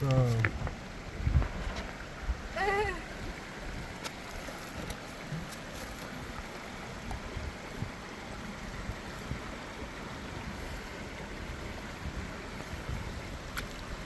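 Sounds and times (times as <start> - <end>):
stream water running: 0.0 - 14.0.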